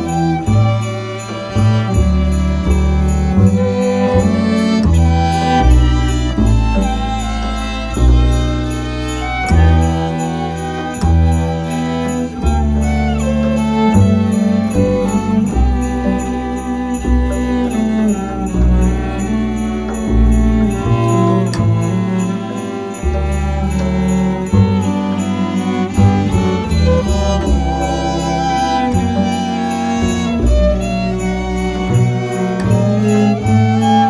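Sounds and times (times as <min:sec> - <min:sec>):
low bass notes: 0:00.0 - 0:34.0
string ensemble playing: 0:00.0 - 0:34.0.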